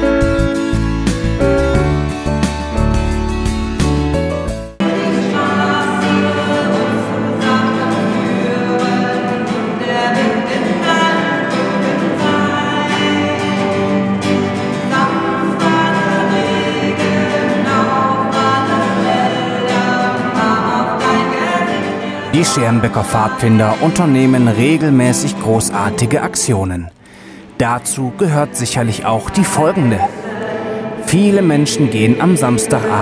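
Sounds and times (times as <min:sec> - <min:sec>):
strummed acoustic guitar: 0:00.0 - 0:33.0
group of voices singing: 0:04.8 - 0:26.6, 0:27.9 - 0:33.0.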